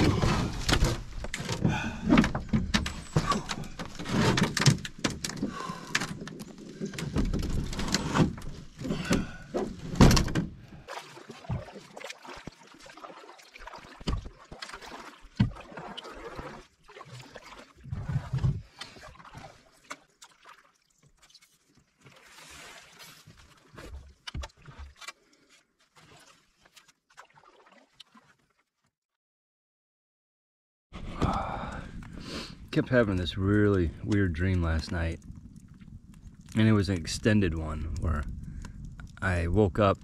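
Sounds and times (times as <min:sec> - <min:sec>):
water noise: 0:00.0 - 0:28.9, 0:31.0 - 0:40.0.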